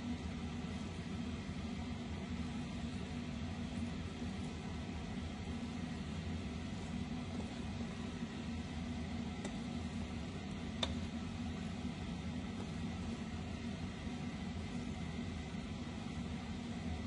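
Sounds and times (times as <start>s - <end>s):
steady low hum with hiss: 0.0s - 17.0s.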